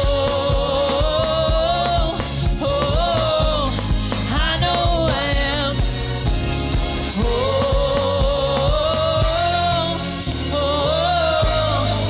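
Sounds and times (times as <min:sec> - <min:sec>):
gospel band playing: 0:00.0 - 0:12.0.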